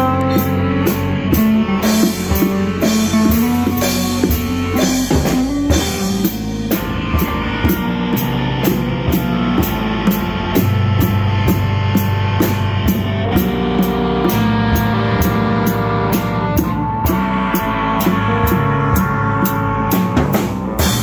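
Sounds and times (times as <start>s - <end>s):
drum kit: 0.0s - 21.0s
electric bass: 0.0s - 21.0s
electric guitar: 0.0s - 21.0s.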